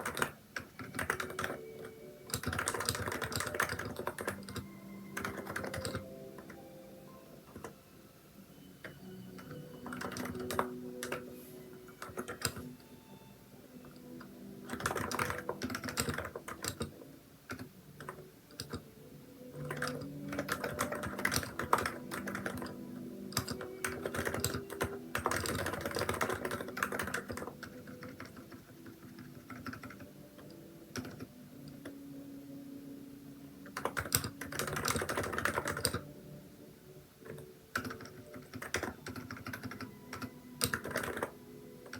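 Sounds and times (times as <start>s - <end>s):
keyboard typing: 0.0s - 6.8s, 7.4s - 7.8s, 8.8s - 32.2s, 33.6s - 36.4s, 37.2s - 41.9s.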